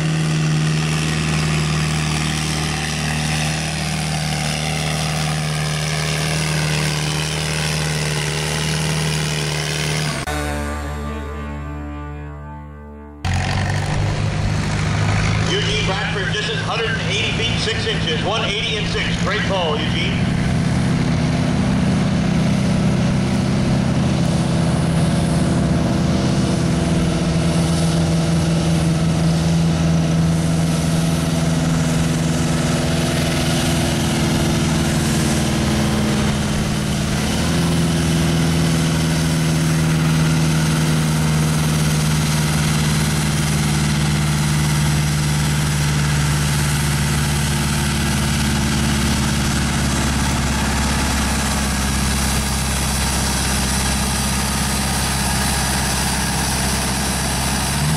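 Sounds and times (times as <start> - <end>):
tractor engine running: 0.0 - 11.5, 13.2 - 57.9.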